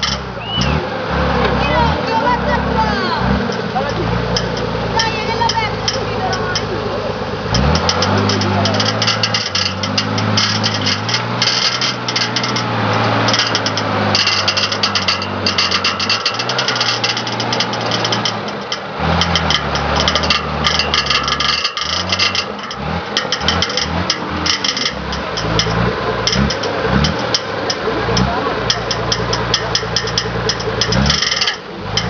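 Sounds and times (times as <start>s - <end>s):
off-road vehicle engine revving: 0.0s - 32.0s
rattling clatter: 0.0s - 32.0s.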